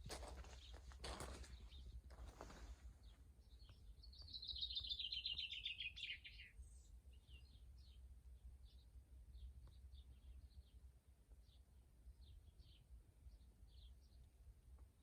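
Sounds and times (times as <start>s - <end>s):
songbird trill: 0.5s - 14.4s.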